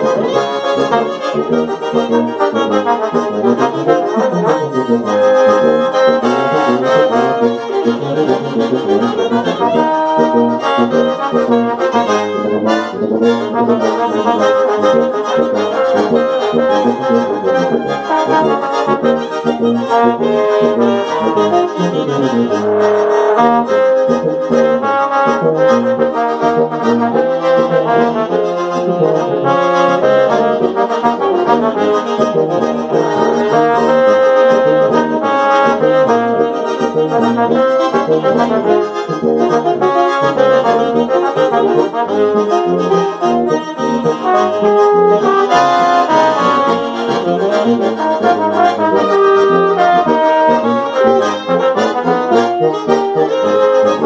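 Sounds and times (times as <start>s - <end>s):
small brass and accordion ensemble: 0.0s - 54.0s.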